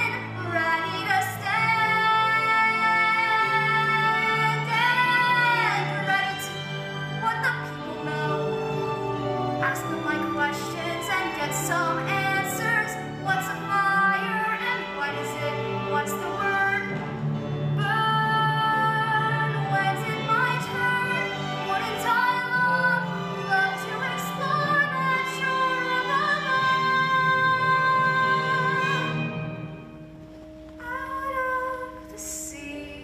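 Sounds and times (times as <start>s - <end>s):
instrumental accompaniment: 0.0s - 33.0s.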